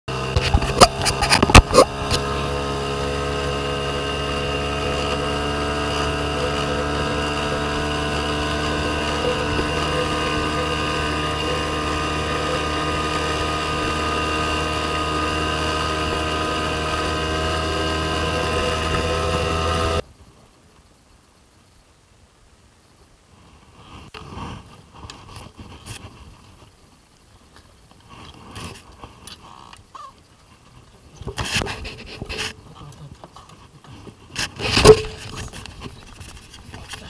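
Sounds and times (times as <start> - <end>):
engine droning steadily: 0.1 - 20.1, 25.3 - 37.0.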